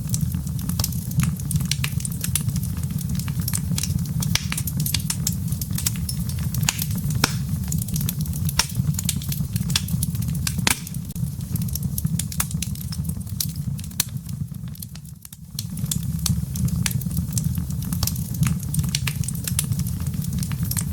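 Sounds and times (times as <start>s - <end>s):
fire crackling and popping: 0.0s - 20.9s
logs burning in a fireplace: 0.0s - 20.9s.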